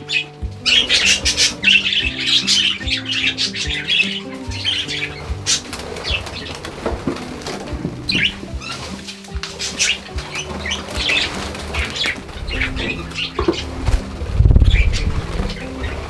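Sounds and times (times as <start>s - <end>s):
budgerigars chattering: 0.0s - 16.0s
soft background music: 0.0s - 16.0s.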